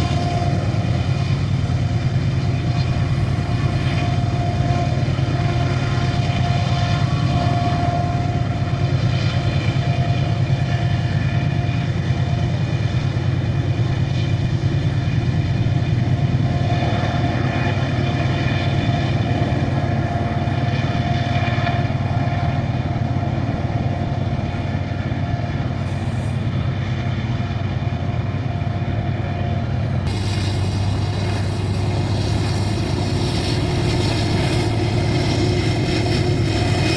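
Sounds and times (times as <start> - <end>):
high locomotive whine: 0.0 - 36.9
locomotive engine drone: 0.0 - 36.9.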